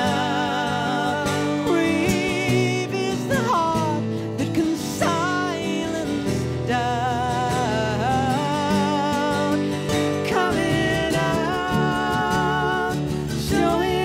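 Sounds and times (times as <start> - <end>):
strummed acoustic guitars: 0.0 - 14.0.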